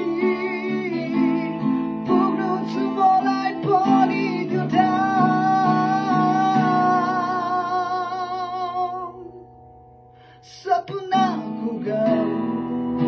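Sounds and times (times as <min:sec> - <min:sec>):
man singing: 0:00.0 - 0:09.5, 0:10.4 - 0:13.0
acoustic guitar strumming: 0:00.0 - 0:13.0.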